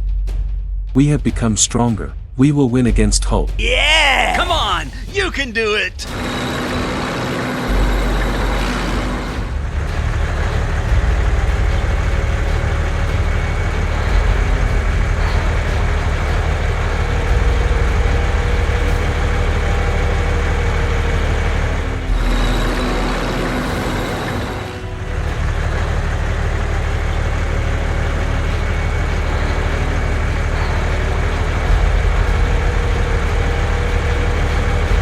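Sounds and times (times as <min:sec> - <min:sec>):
truck engine rumbling: 0:03.6 - 0:35.0.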